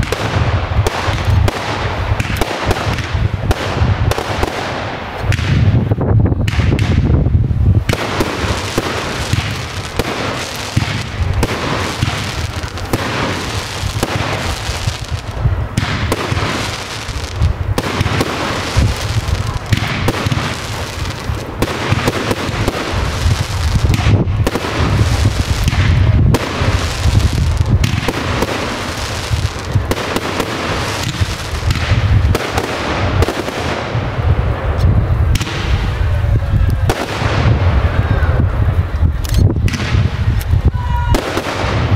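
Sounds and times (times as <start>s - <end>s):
fireworks launching and bursting: 0.0s - 41.9s.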